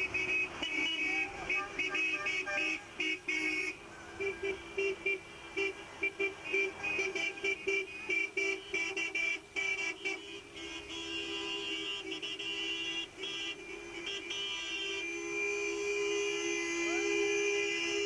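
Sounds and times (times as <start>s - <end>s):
car horns tooting: 0.0s - 18.0s.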